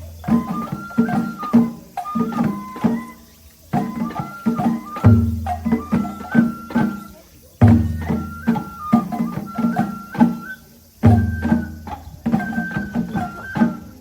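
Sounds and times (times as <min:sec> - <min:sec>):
flute melody: 0:00.0 - 0:14.0
rapid drum strokes: 0:00.0 - 0:14.0.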